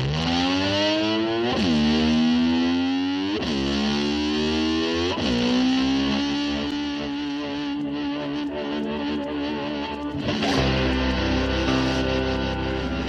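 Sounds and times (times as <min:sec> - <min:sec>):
distorted electric slide guitar: 0:00.0 - 0:13.0.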